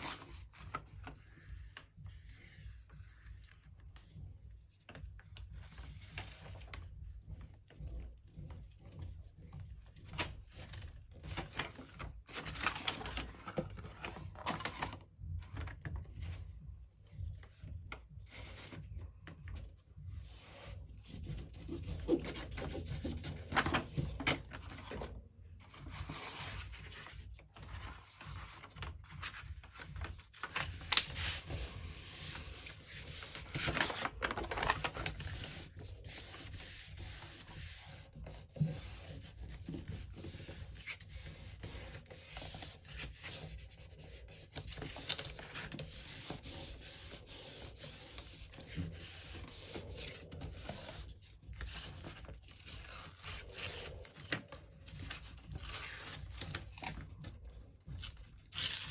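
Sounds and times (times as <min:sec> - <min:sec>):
paper and cardboard rustling: 0:04.9 - 0:16.6, 0:17.2 - 0:58.9.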